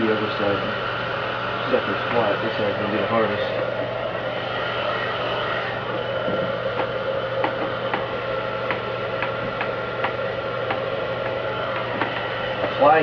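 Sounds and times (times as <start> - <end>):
mechanical hum with whine: 0.0 - 13.0.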